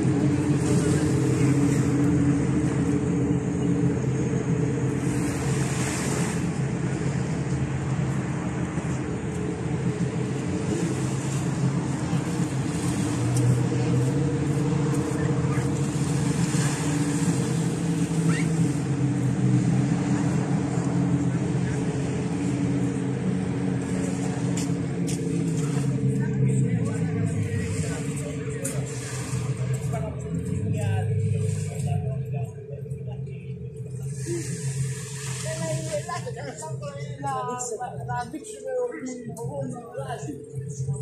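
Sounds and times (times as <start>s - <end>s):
small waves washing on shore: 0.0s - 3.9s, 4.5s - 32.1s, 33.8s - 37.8s
boat engines droning: 0.0s - 41.0s.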